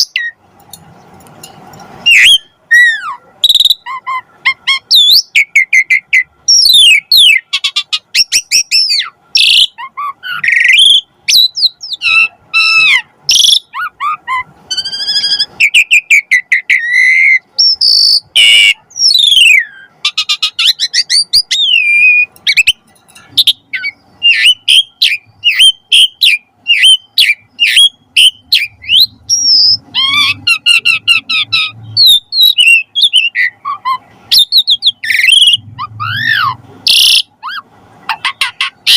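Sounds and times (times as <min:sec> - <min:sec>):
starling singing: 0:00.0 - 0:01.1, 0:02.0 - 0:38.9.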